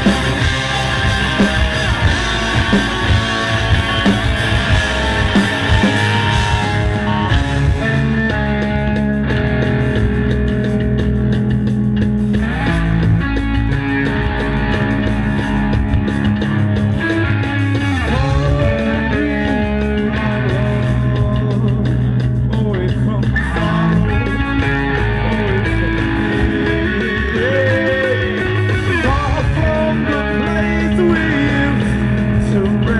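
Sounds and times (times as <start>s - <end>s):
rock band playing live: 0.0s - 32.9s.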